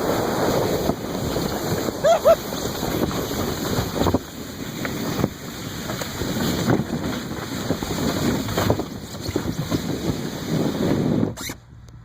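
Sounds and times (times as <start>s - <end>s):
plastic sled sliding on snow: 0.0s - 11.6s
wind buffeting microphone: 0.0s - 11.6s.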